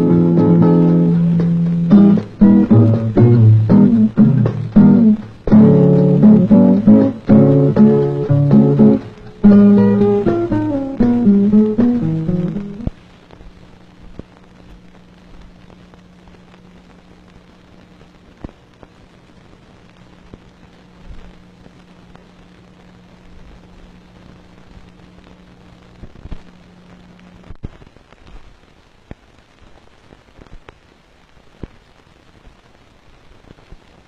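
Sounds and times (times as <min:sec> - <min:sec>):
steady hum: 0:00.0 - 0:27.6
film soundtrack crackle and pops: 0:00.0 - 0:34.0.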